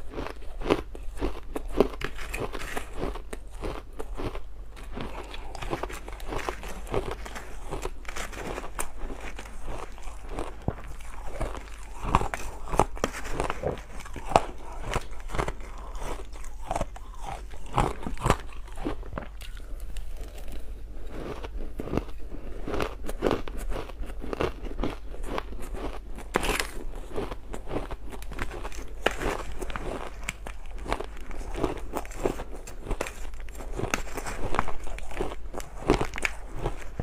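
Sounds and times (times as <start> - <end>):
ice crunched between teeth: 0.1 - 37.0.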